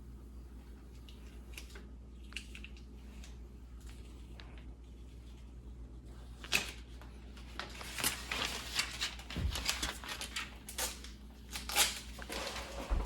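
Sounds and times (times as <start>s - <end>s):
vinyl decal peeling and crinkling: 0.9s - 13.0s.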